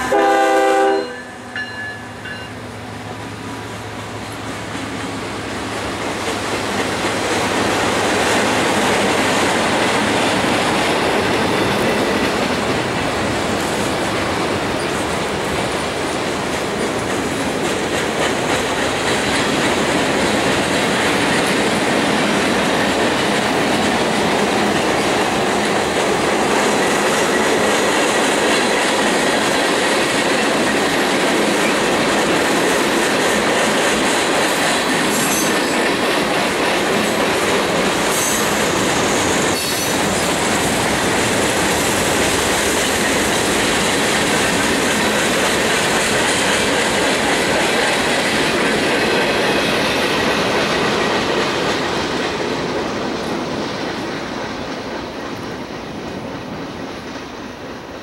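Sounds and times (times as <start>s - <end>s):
train wheels on track: 0.0s - 58.0s.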